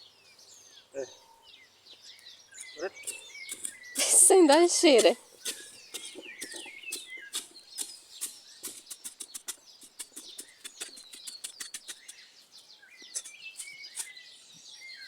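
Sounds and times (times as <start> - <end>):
small birds chirping: 0.0 - 15.0
hand tool digging in sandy soil: 2.6 - 15.0.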